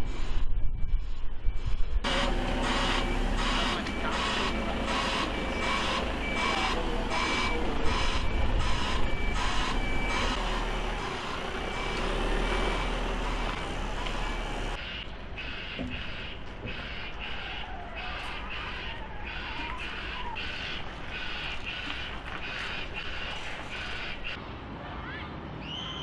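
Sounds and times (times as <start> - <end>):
truck reversing alarm: 0.8 - 24.4
diesel engine running: 2.0 - 24.4.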